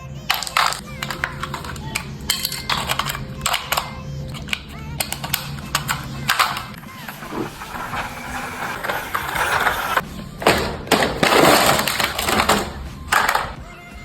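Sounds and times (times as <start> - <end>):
plastic toy car clicks and clatters: 0.2 - 13.6.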